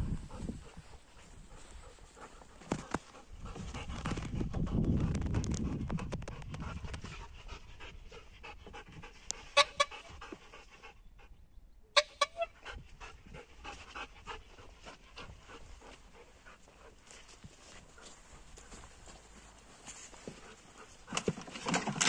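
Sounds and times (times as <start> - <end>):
dog panting rapidly: 0.0 - 11.1, 12.6 - 21.8.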